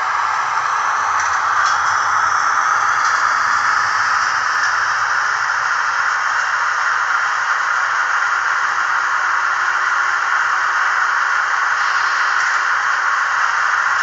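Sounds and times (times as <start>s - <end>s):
model locomotive hiss: 0.0s - 14.0s.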